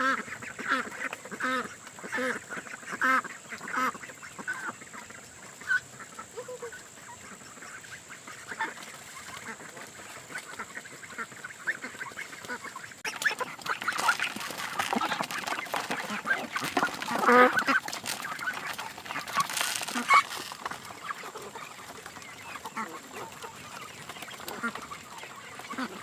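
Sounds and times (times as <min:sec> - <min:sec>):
waterfowl quacking and honking: 0:00.0 - 0:26.0.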